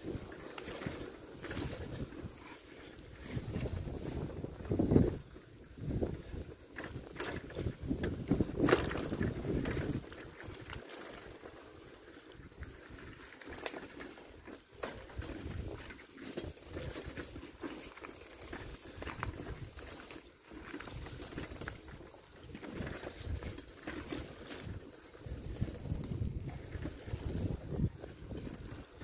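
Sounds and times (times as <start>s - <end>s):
wind rumble on microphone: 0.0s - 10.8s, 14.8s - 17.6s, 18.5s - 29.0s
footsteps on paved path: 0.0s - 29.0s.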